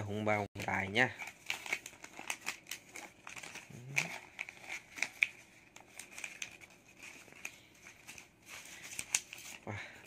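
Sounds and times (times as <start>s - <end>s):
paper envelope crinkling: 0.3s - 10.0s.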